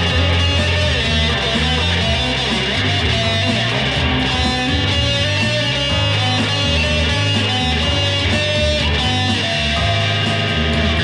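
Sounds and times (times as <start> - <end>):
electric guitar sustained notes: 0.0 - 11.0.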